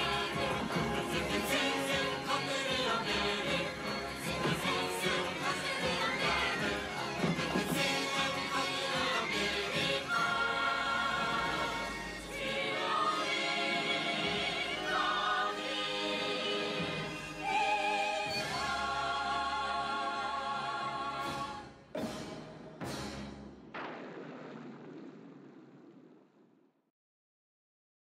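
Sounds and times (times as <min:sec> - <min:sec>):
group singing with orchestra: 0:00.0 - 0:22.5.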